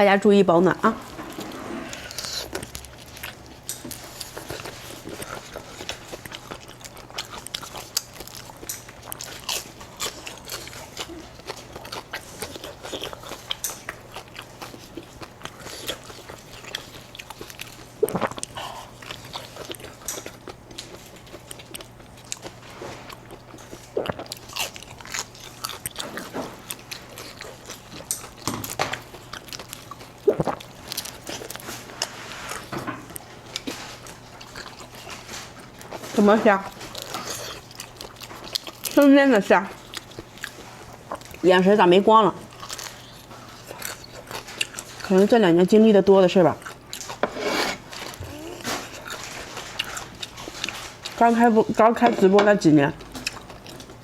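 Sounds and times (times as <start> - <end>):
electric fan hum: 0.0 - 54.0
wet chewing and crunching: 1.1 - 54.0.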